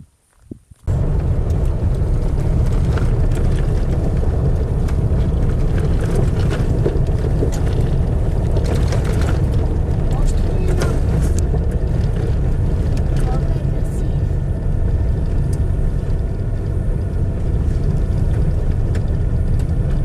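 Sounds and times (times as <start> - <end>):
vehicle driving rumble: 0.3 - 20.0.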